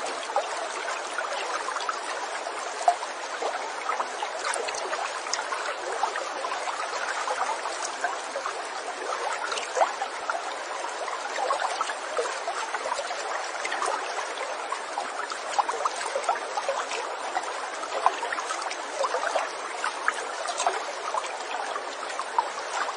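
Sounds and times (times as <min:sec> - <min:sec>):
stream babbling: 0:00.0 - 0:22.9.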